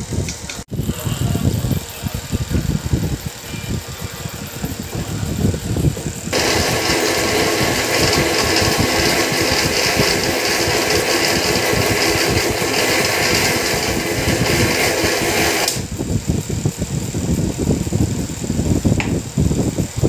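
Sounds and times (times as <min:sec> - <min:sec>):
electric motor running: 0:00.7 - 0:18.2.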